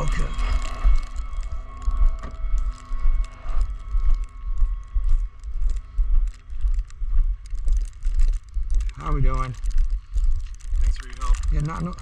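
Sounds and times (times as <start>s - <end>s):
footsteps crunching through snow: 0.0s - 12.0s.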